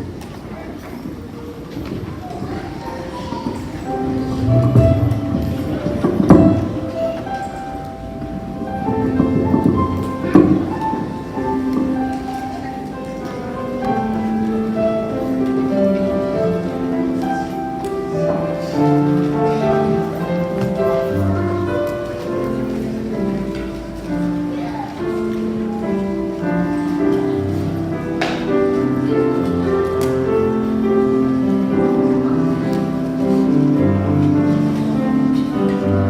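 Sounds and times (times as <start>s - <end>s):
low accompaniment: 3.6s - 36.0s
slow instrumental melody: 3.8s - 36.0s.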